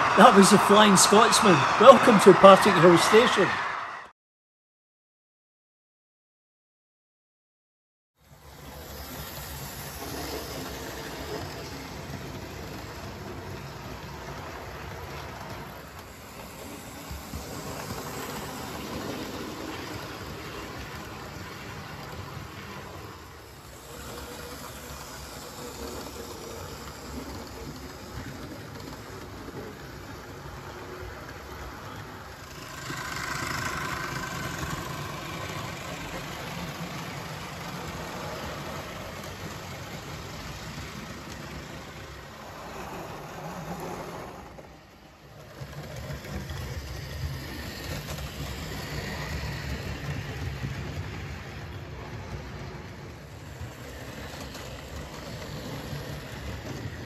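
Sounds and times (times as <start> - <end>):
model trains rumbling on rails: 8.2 - 57.0.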